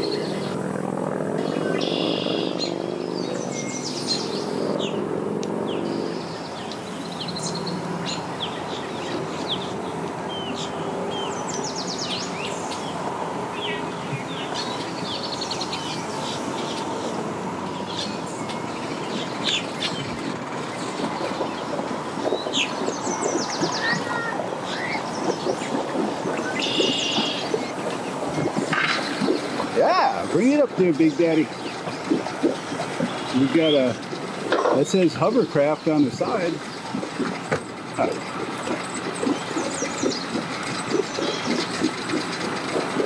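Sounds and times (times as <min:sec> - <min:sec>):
boat engine idling: 0:00.0 - 0:43.0
bird chirps: 0:01.4 - 0:05.0, 0:05.7 - 0:43.0.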